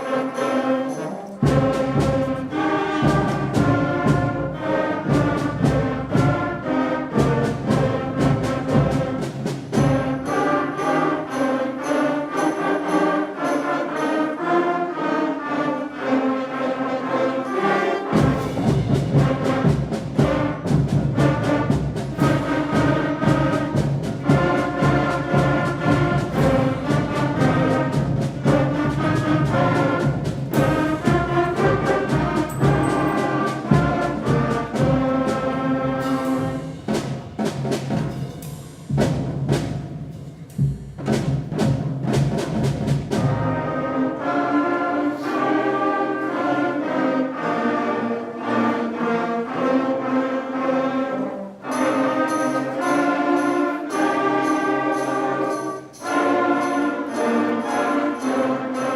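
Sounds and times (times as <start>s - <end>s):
sharp percussion hits: 0.0s - 6.5s, 7.1s - 14.5s, 17.5s - 43.8s, 51.6s - 58.9s
school concert band playing: 0.0s - 58.9s.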